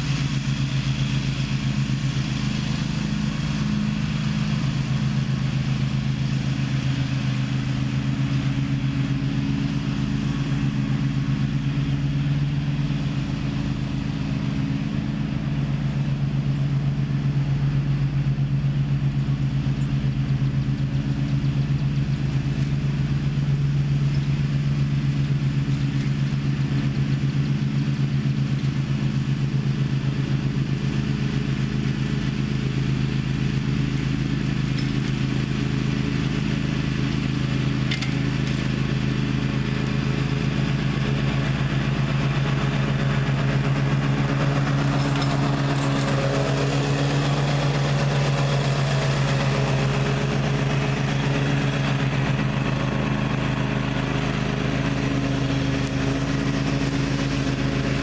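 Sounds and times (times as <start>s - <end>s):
riding mower engine droning: 0.0s - 58.0s.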